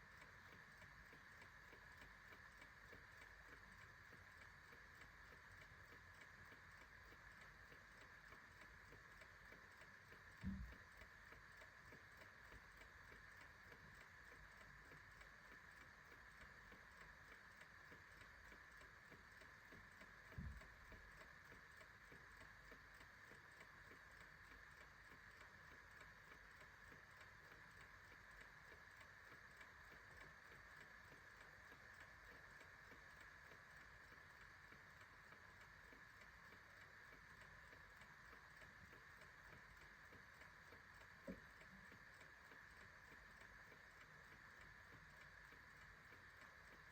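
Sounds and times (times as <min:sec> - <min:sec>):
clock ticking: 0:00.0 - 0:46.9.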